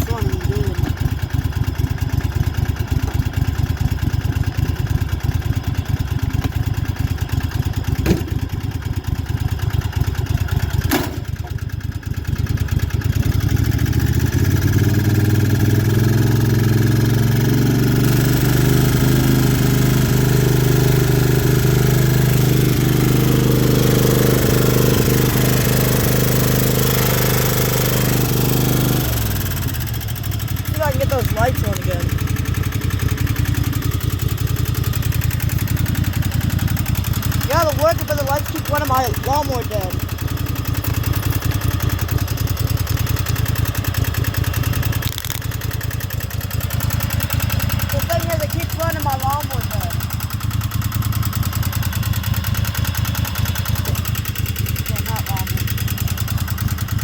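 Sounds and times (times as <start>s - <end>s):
riding lawnmower engine running: 0.0s - 57.0s.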